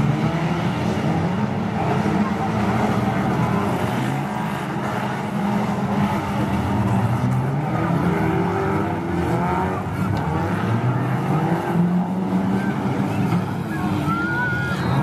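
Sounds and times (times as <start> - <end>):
stock car engines revving: 0.0 - 15.0.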